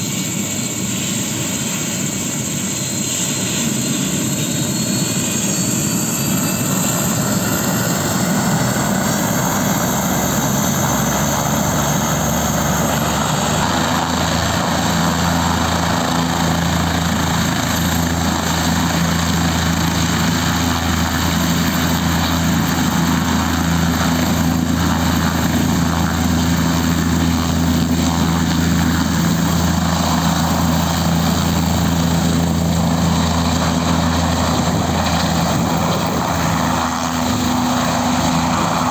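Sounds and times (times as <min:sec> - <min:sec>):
helicopter rotor drone: 0:00.0 - 0:38.9.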